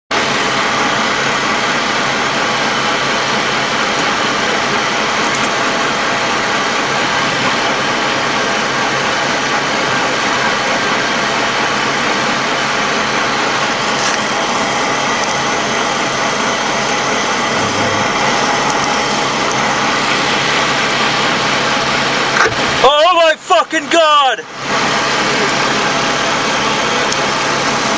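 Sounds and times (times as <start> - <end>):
armoured vehicle diesel drone: 0.1 - 27.9.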